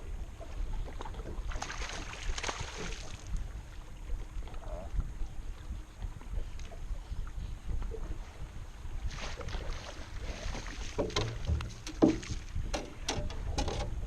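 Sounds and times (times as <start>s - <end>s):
low wind rumble: 0.0s - 14.0s
water noise: 0.0s - 14.0s.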